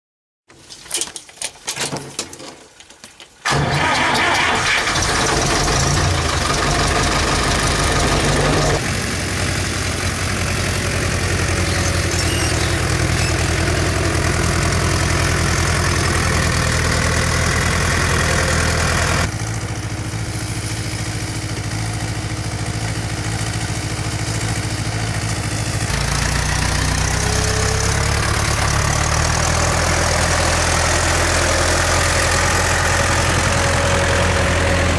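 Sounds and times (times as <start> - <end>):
diesel engine cranking and running: 3.4 - 34.9.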